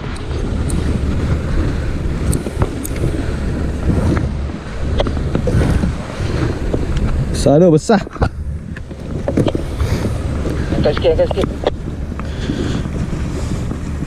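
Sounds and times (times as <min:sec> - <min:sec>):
choppy sea water: 0:00.0 - 0:14.0
wind buffeting microphone: 0:00.0 - 0:14.0.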